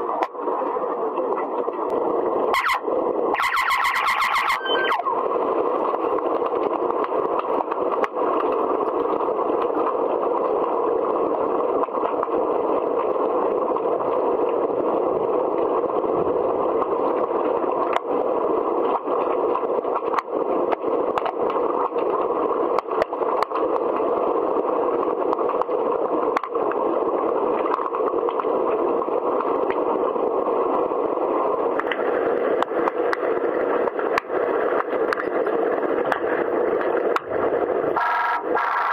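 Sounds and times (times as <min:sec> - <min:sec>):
muffled underwater hiss: 0:00.0 - 0:38.0.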